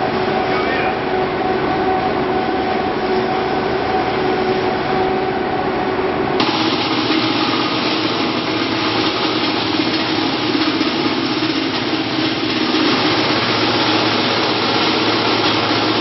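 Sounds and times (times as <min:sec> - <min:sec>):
hissy machine noise: 0:00.0 - 0:16.0
machines humming and whining: 0:00.0 - 0:16.0.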